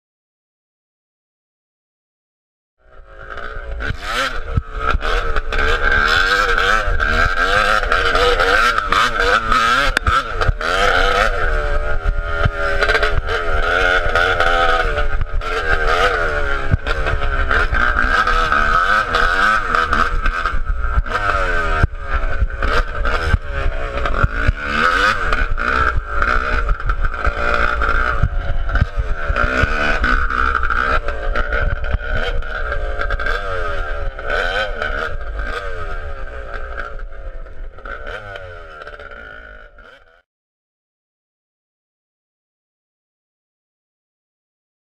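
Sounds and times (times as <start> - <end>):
dirt bike engine revving: 2.8 - 40.2.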